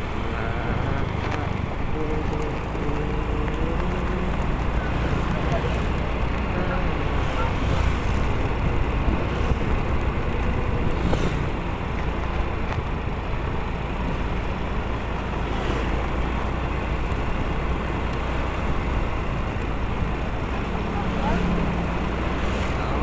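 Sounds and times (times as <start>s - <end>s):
motorcycle engine rumble: 0.0s - 23.0s
wind and road noise: 0.0s - 23.0s.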